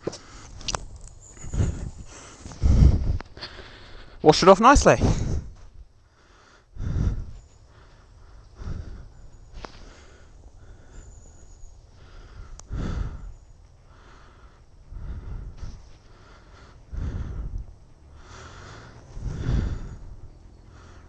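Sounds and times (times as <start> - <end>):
person breathing hard: 0.0 - 0.8, 1.4 - 4.3, 5.0 - 21.0.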